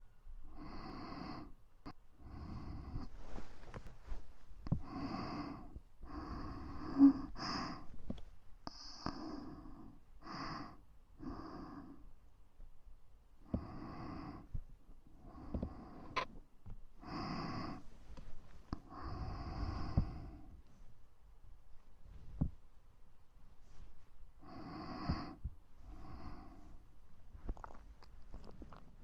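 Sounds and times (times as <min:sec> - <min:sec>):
soft breaths into microphone: 0:00.0 - 0:12.4, 0:13.3 - 0:29.0.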